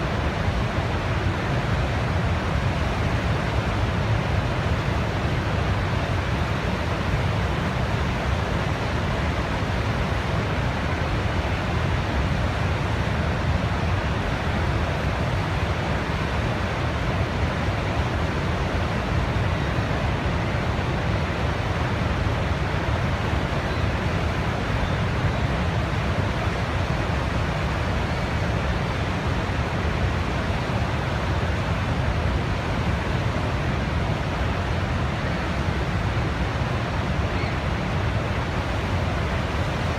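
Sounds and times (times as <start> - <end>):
low steady rushing noise: 0.0 - 39.9.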